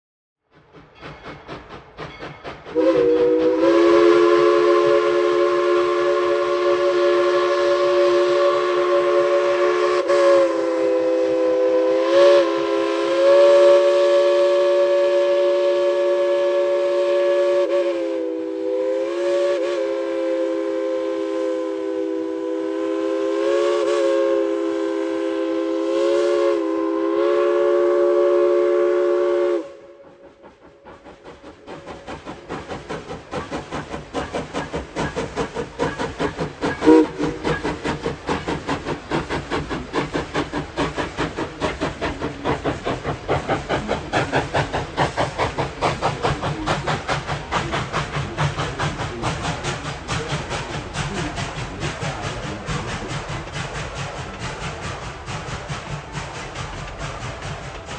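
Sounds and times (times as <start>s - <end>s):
steam locomotive whistle: 2.6s - 30.4s, 33.8s - 57.9s.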